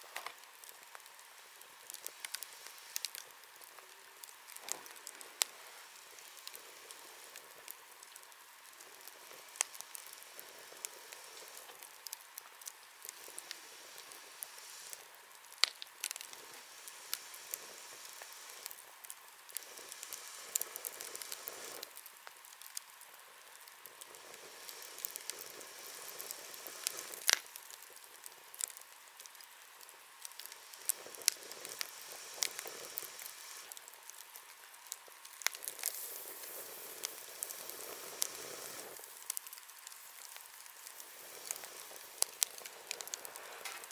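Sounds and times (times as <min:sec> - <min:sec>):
bonfire hissing: 0:00.0 - 0:43.9
fire popping and crackling: 0:00.0 - 0:43.9.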